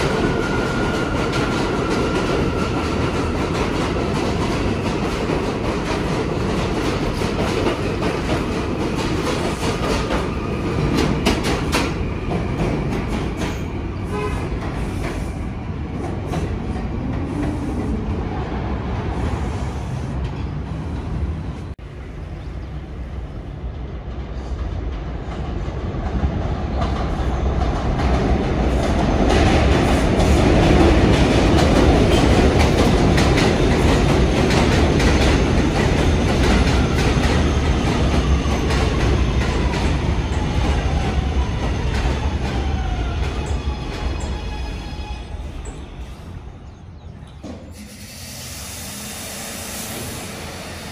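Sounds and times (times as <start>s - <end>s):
subway train wheels clacking: 0.0s - 50.9s.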